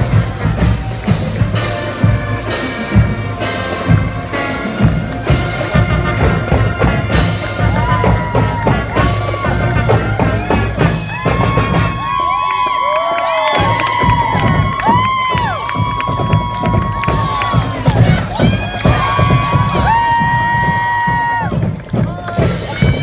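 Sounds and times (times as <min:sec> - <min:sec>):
crowd cheering: 0:00.0 - 0:23.0
marching band playing: 0:00.0 - 0:23.0.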